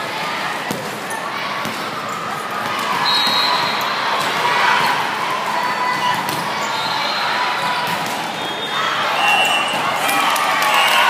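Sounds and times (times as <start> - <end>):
crowd chatter and shouts: 0.0 - 11.0.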